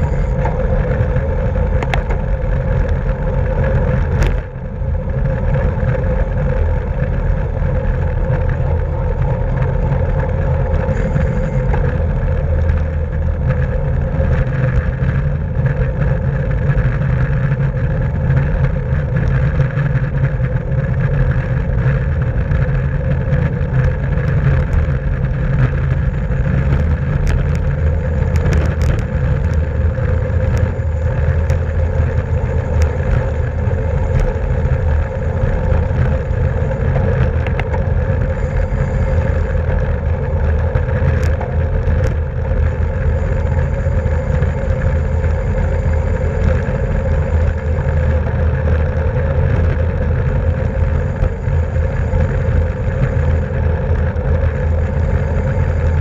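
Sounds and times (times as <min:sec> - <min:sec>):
road noise: 0:00.0 - 0:56.0
wind rush on microphone: 0:00.0 - 0:56.0.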